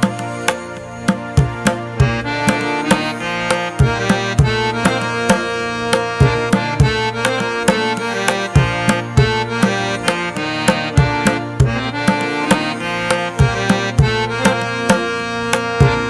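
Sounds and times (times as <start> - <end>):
hand drum beat: 0.0 - 16.0
sustained reed melody: 0.0 - 16.0.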